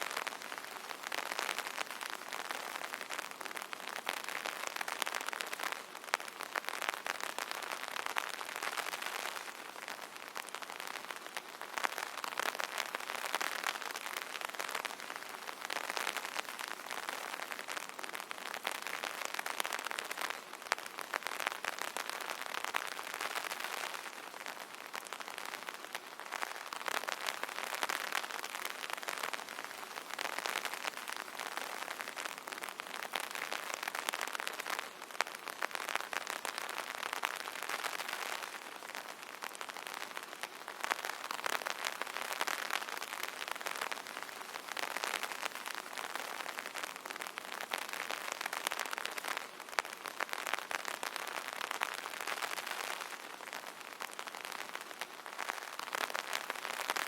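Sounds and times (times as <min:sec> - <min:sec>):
rain pattering on umbrella: 0:00.0 - 0:57.0.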